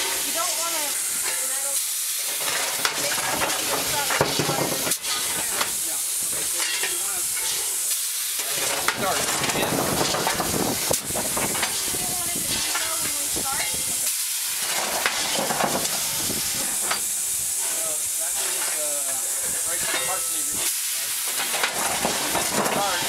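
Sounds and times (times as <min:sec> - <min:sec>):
steam hissing: 0:00.0 - 0:23.0.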